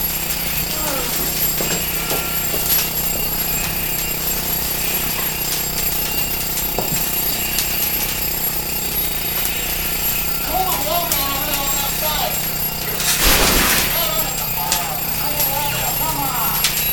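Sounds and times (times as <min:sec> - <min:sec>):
fire burning with rushing noise: 0:00.0 - 0:16.9.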